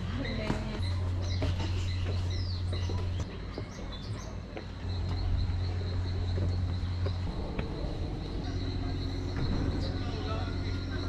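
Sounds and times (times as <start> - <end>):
birds chirping: 0.0 - 11.0
gliding bird calls: 0.0 - 11.0
steady low hum: 0.0 - 11.0.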